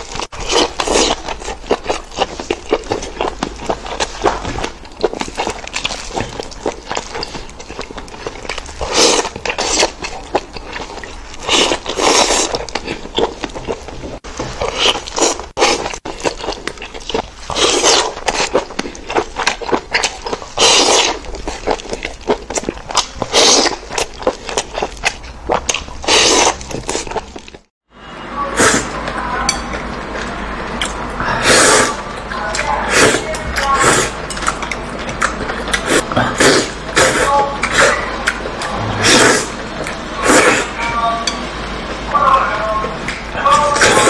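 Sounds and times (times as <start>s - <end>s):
person chewing and slurping: 0.0s - 27.7s, 29.5s - 42.1s.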